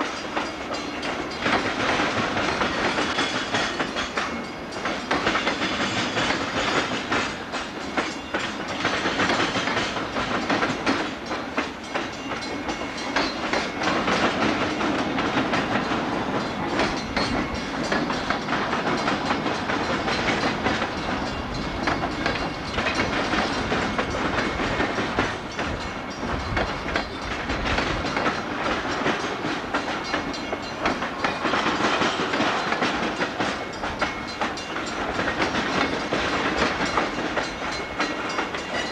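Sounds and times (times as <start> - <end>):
train wheels clattering over crossing: 0.0 - 38.9.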